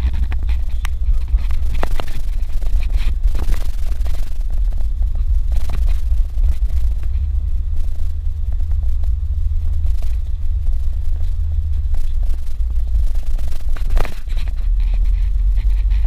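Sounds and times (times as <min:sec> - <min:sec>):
car rumbling on dirt road: 0:00.0 - 0:16.0.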